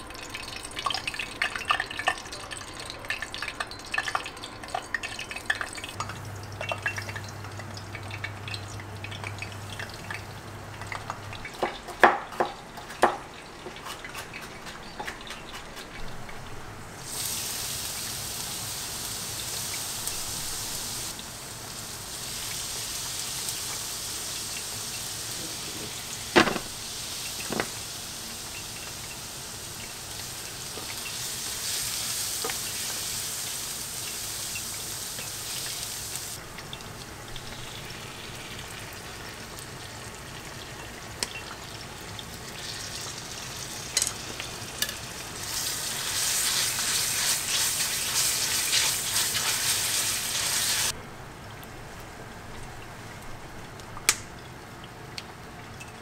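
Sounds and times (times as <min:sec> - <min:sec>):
garlic sizzling in oil: 0:00.1 - 0:51.0.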